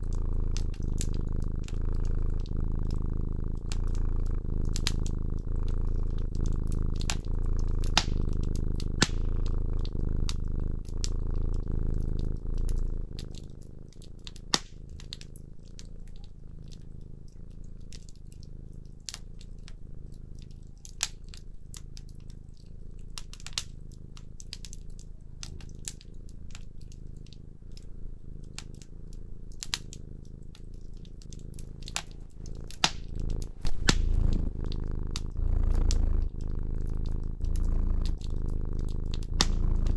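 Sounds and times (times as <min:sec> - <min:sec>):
cat purring: 0:00.0 - 0:39.9
fire crackling and popping: 0:00.0 - 0:39.9.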